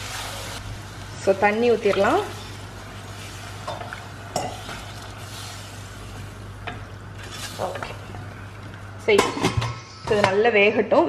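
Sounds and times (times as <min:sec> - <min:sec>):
food sizzling in a pan: 0:00.0 - 0:09.2.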